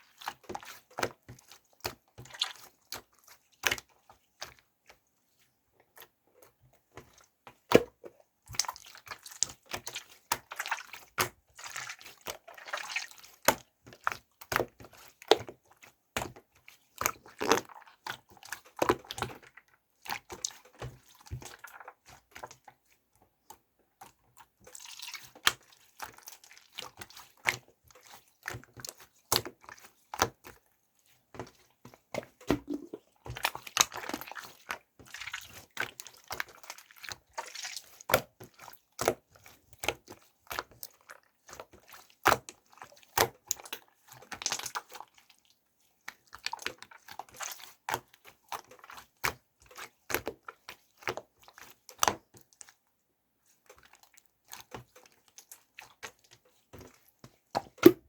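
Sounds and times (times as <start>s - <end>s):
soft material squishing by hand: 0.0s - 58.0s.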